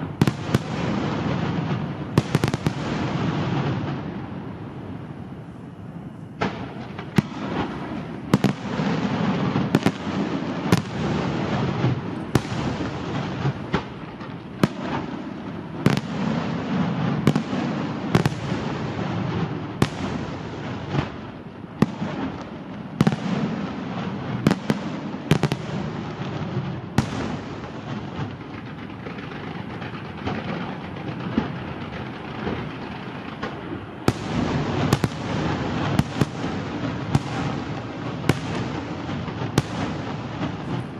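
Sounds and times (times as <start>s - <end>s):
rumble of firework bursts: 0.0s - 40.9s.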